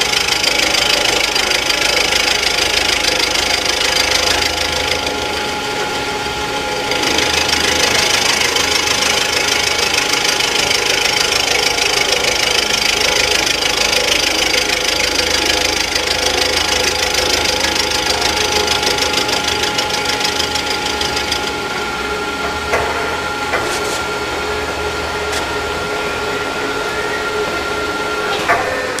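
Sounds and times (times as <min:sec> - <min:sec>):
machine whine: 0:00.0 - 0:29.0.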